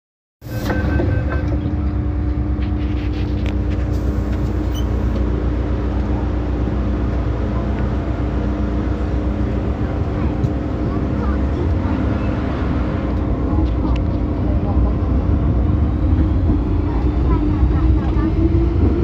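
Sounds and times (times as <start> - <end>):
train interior hum and rumble: 0.4 - 19.0.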